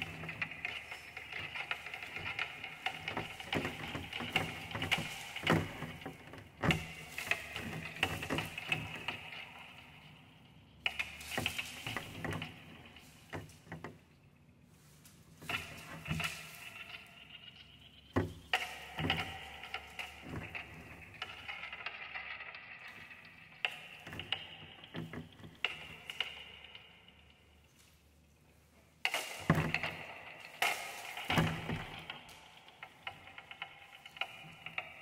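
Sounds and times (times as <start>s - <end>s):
crackling and rustling leaves: 0.0s - 35.0s.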